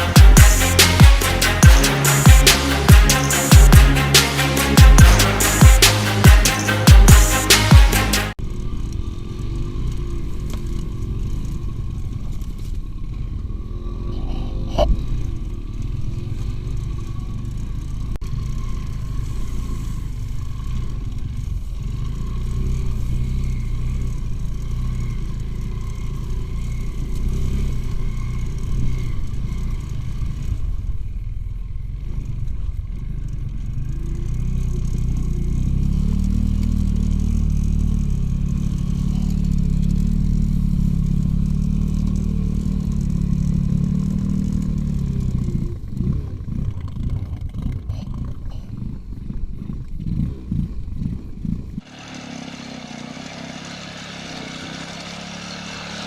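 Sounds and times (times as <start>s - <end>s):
motorcycle engines running: 0.0s - 56.0s.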